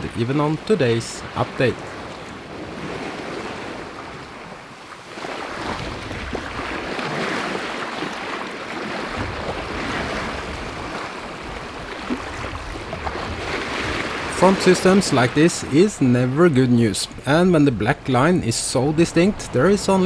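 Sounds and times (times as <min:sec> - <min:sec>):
wind buffeting microphone: 0:00.0 - 0:08.1, 0:08.8 - 0:20.0
sea water splashing along hull: 0:00.0 - 0:20.0.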